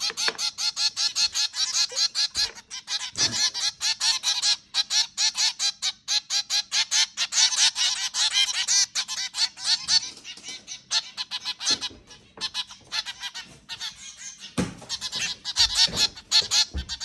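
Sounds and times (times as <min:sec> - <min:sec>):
finches honking calls: 0:00.0 - 0:17.0.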